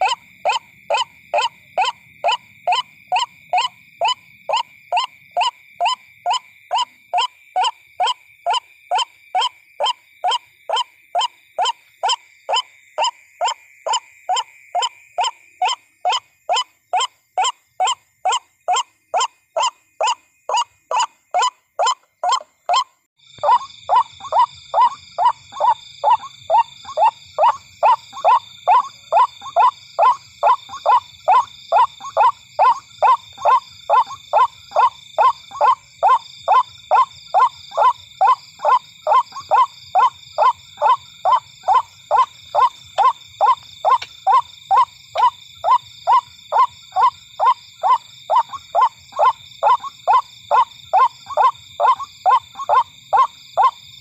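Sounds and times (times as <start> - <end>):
waterhen calling kwak: 0.0 - 53.8.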